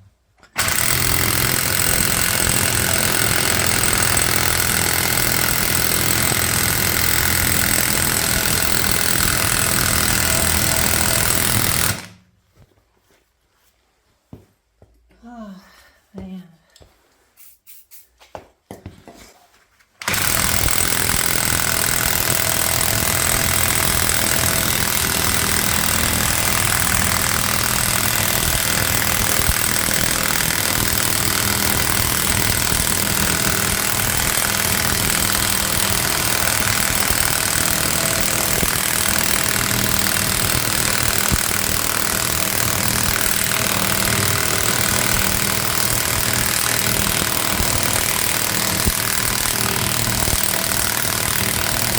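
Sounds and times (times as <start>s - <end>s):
impact wrench hammering: 0.5s - 12.2s, 20.0s - 51.9s.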